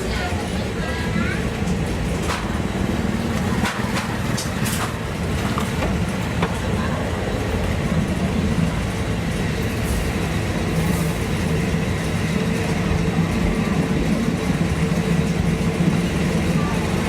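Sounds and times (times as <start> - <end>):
diesel train engine running: 0.0 - 17.0.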